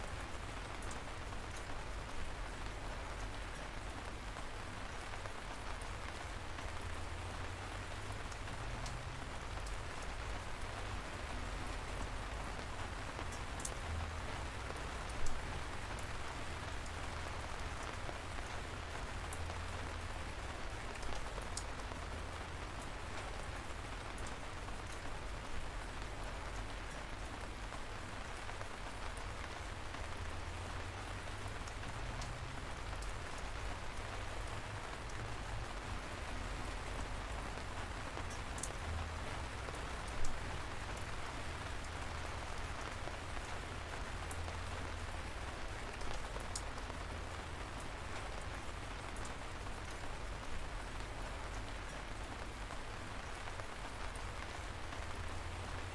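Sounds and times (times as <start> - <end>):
light rain falling: 0.0 - 55.9
raindrops ticking: 0.1 - 55.9.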